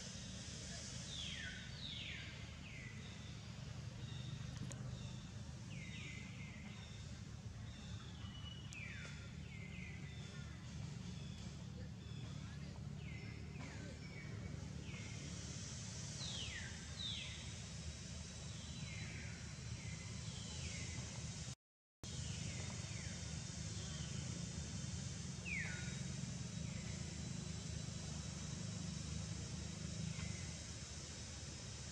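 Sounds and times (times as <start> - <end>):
outdoor hiss and rumble: 0.0 - 31.9.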